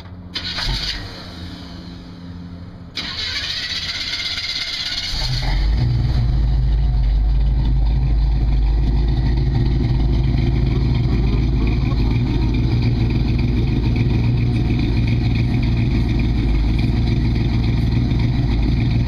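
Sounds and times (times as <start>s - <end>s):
car engine with deep exhaust note: 3.7s - 19.0s.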